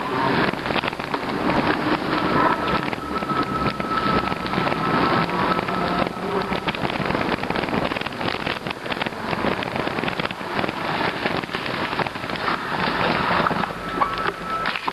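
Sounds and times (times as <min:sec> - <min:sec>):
bike tyres on slushy road: 0:00.0 - 0:14.9.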